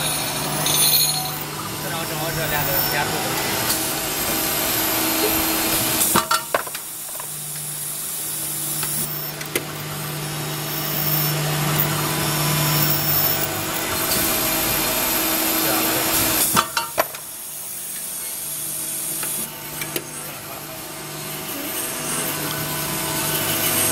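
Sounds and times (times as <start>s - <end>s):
drill cutting into metal: 0.0s - 23.9s
drilling machine motor hum: 1.4s - 16.5s, 17.2s - 23.9s.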